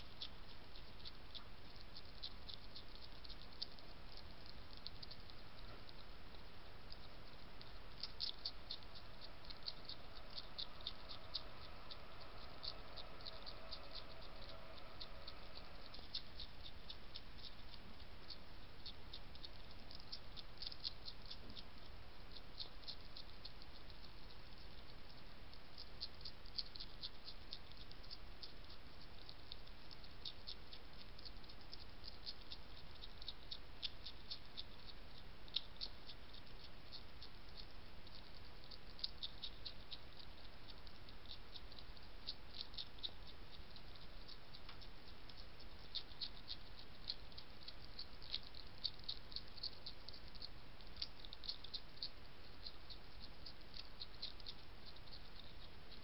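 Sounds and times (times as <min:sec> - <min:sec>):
hedgehog crunching biscuits: 0:00.0 - 0:56.0
low hiss: 0:00.0 - 0:56.0.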